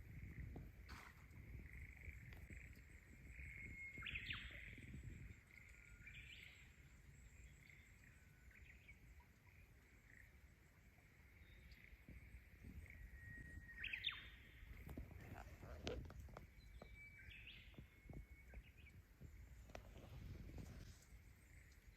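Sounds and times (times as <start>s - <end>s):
faint bird chirps: 0.1s - 21.9s.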